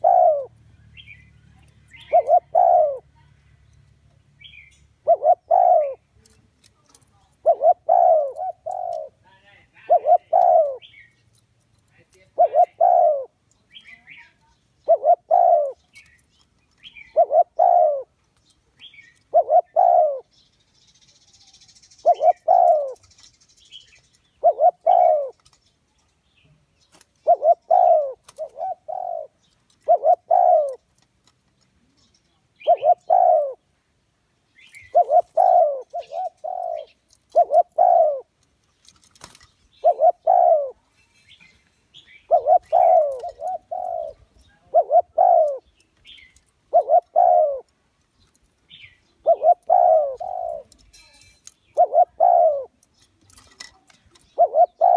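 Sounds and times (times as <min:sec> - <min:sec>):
dove cooing: 0:00.0 - 0:03.4, 0:04.4 - 0:11.2, 0:12.2 - 0:18.2, 0:18.8 - 0:20.4, 0:21.6 - 0:25.5, 0:26.9 - 0:31.0, 0:32.6 - 0:33.7, 0:34.6 - 0:38.4, 0:39.0 - 0:41.0, 0:42.0 - 0:47.7, 0:48.3 - 0:54.9.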